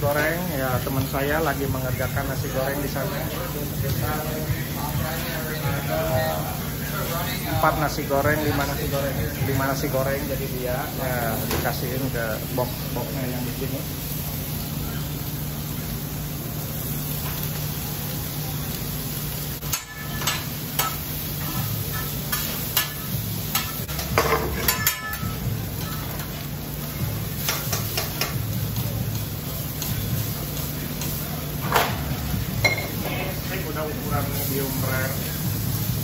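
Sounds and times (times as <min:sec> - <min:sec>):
food sizzling on a griddle: 0:00.0 - 0:36.0.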